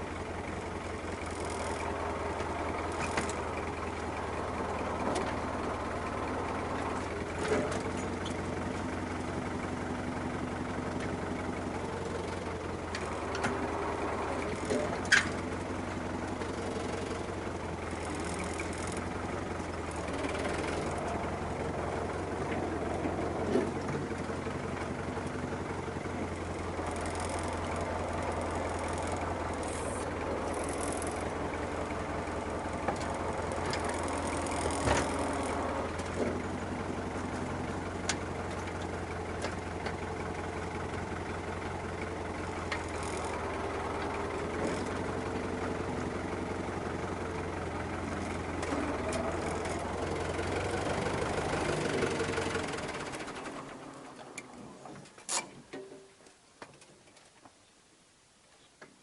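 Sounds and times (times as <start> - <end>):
tractor diesel engine running: 0.0 - 57.3.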